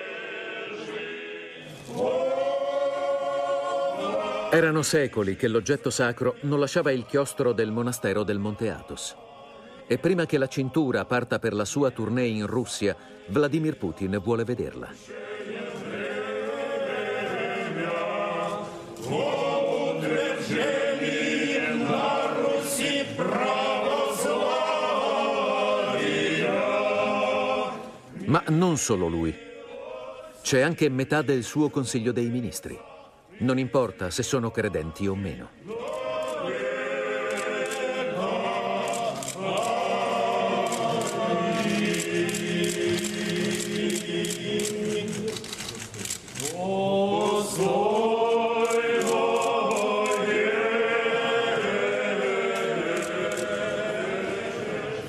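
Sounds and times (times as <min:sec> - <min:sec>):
monks chanting a cappella: 0:00.0 - 0:55.0.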